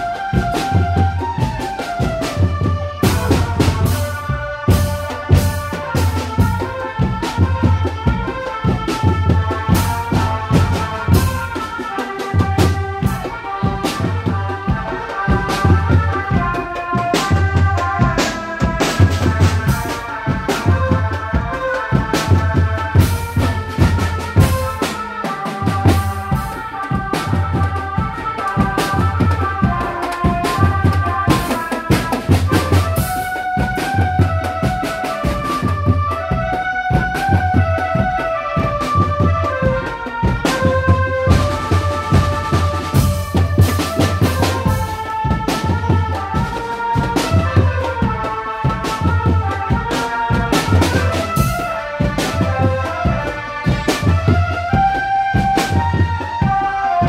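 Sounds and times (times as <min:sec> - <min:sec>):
fast melody line: 0:00.0 - 0:57.0
marching drums beating: 0:00.0 - 0:57.0.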